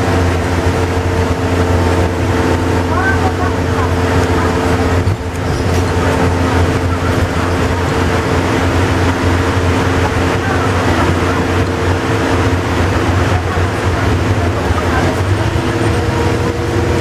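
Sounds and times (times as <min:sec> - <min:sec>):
bus engine and drivetrain drone: 0:00.0 - 0:17.0
road and tyre noise: 0:00.0 - 0:17.0.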